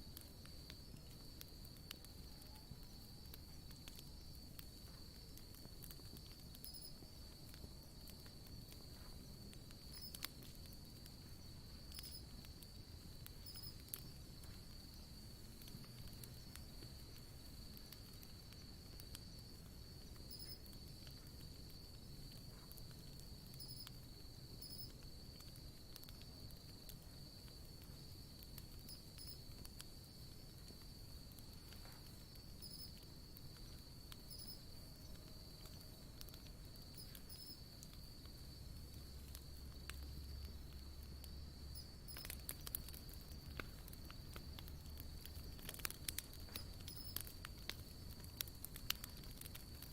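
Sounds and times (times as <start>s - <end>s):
campfire crackling and popping: 0.0s - 49.9s
insects trilling: 0.3s - 49.9s.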